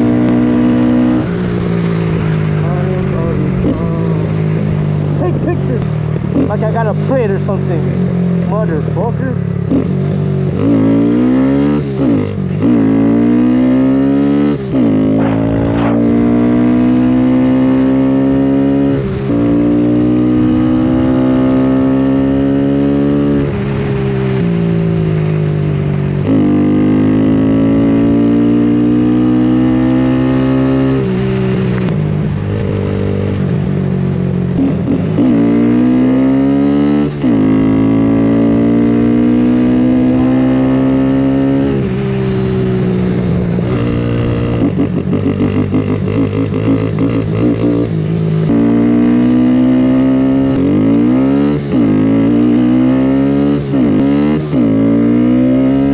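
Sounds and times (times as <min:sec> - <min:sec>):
motorcycle engine shifting gears: 0:00.0 - 0:55.9.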